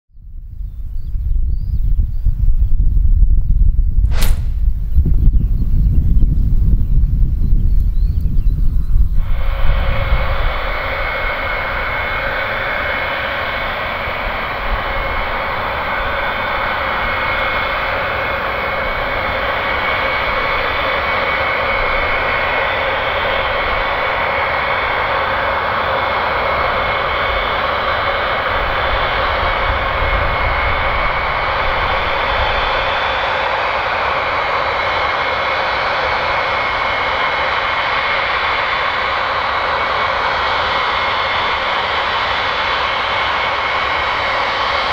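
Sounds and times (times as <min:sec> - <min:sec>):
jet engine whine: 0:00.2 - 0:44.9.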